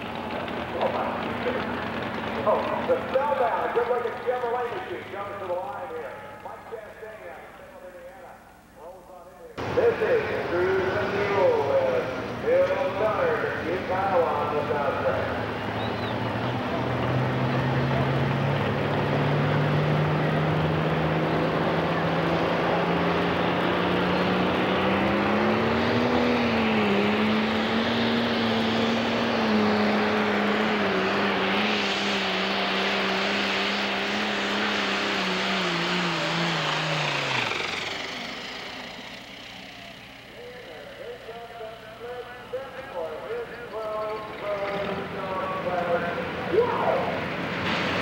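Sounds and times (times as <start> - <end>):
tractor diesel engine at full power: 0.0 - 8.8, 9.6 - 48.0.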